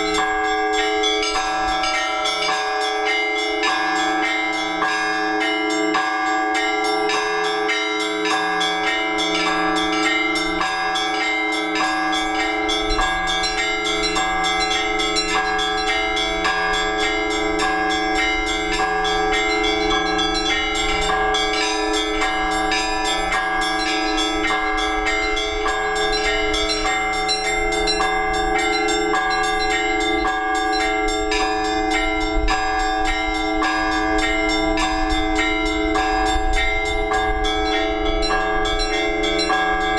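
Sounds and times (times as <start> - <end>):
large church bells ringing: 0.0 - 39.9
small church bells striking: 0.0 - 39.9.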